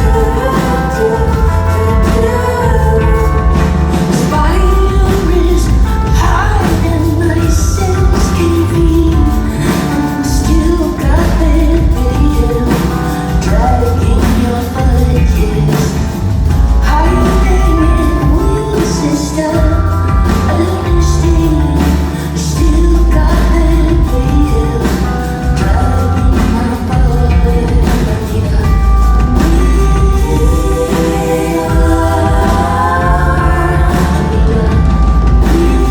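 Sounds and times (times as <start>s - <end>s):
pop music with singing: 0.0s - 35.9s.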